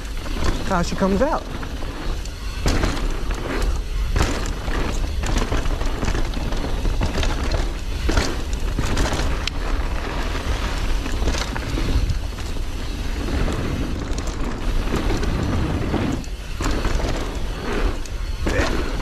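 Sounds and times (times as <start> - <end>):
bike rattling and knocking: 0.0 - 19.0
bike tyres rolling on dirt: 0.0 - 19.0.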